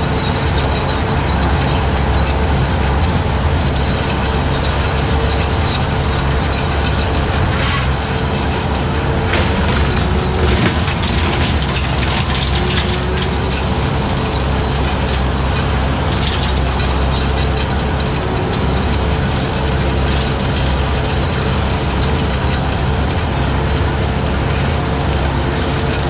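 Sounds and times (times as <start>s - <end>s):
skid steer engine under load: 0.0s - 26.0s.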